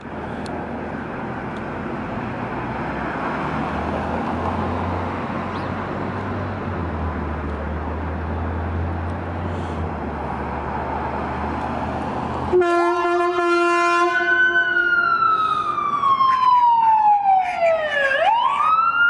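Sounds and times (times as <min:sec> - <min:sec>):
ambulance engine running: 0:00.0 - 0:19.0
street traffic noise: 0:00.0 - 0:19.0.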